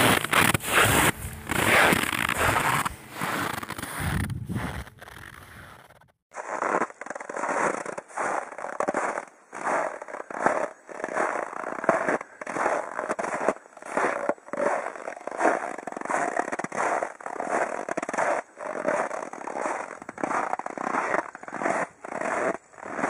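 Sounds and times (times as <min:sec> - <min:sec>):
footsteps crunching in snow: 0:00.0 - 0:23.0.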